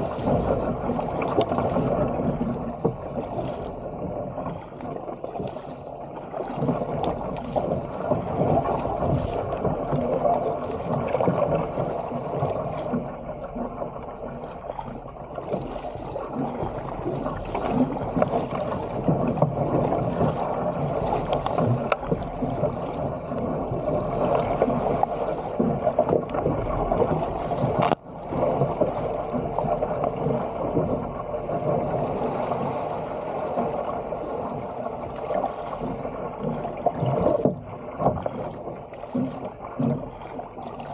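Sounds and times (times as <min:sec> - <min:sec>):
water splashing along kayak hull: 0:00.0 - 0:40.9.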